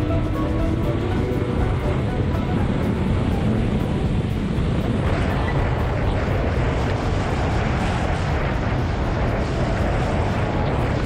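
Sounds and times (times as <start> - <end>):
rush of wind: 0.0 - 11.0
snowmobile engine drone: 0.0 - 11.0
snowmobile track noise: 0.0 - 11.0.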